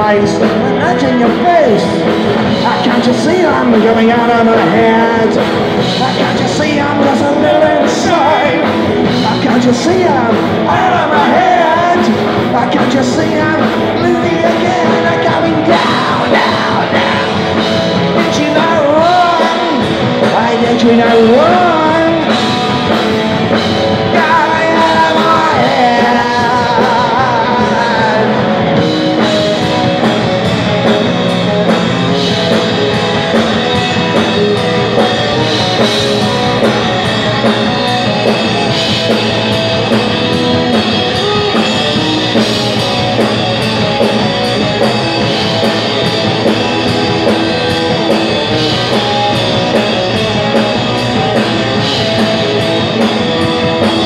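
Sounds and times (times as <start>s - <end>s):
bass guitar: 0.0s - 54.0s
drums: 0.0s - 54.0s
electric guitar: 0.0s - 54.0s
person singing: 0.0s - 54.0s.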